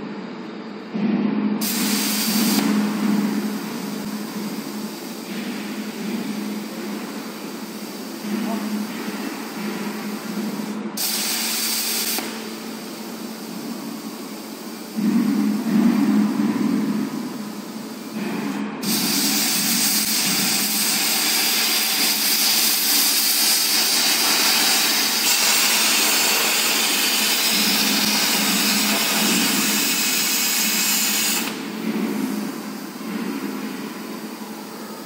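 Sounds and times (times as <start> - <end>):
low machine hum: 0.0 - 35.0
plasma cutting torch hissing: 1.6 - 15.6, 18.8 - 33.0.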